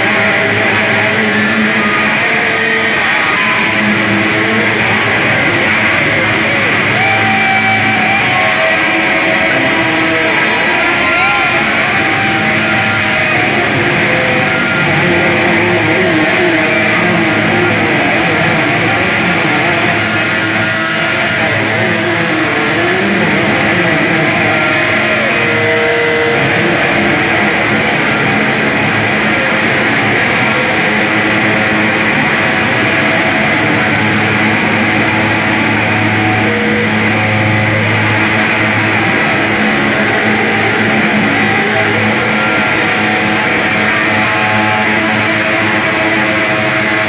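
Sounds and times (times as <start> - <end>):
distorted electric guitar: 0.0 - 47.0
electronic drone: 0.0 - 47.0.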